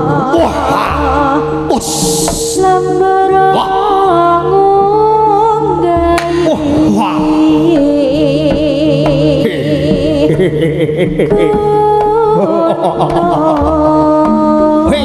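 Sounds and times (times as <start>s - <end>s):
gamelan music: 0.0s - 15.0s.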